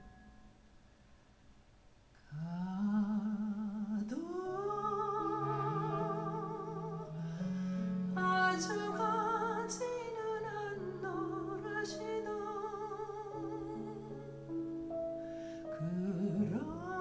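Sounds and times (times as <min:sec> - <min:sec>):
person singing with vibrato: 0:02.2 - 0:14.6, 0:15.4 - 0:17.0.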